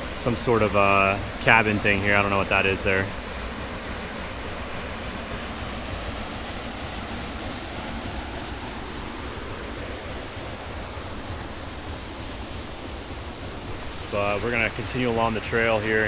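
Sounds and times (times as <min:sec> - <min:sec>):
flowing spring water: 0:00.0 - 0:16.0.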